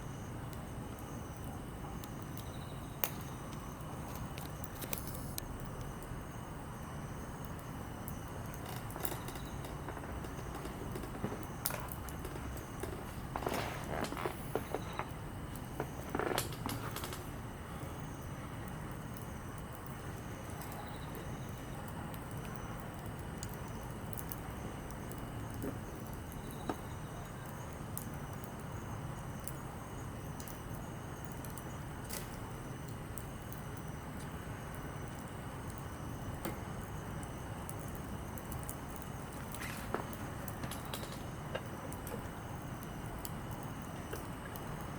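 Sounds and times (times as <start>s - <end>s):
campfire crackling: 0.0s - 44.9s
sharp pops of fire: 0.1s - 6.7s, 7.3s - 44.9s.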